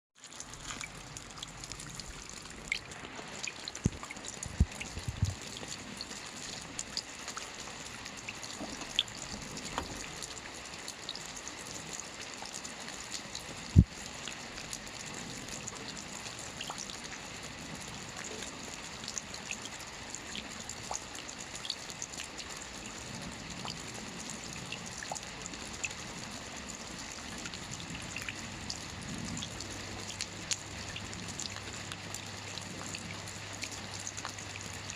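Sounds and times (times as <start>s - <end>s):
light rain falling: 0.2s - 34.9s.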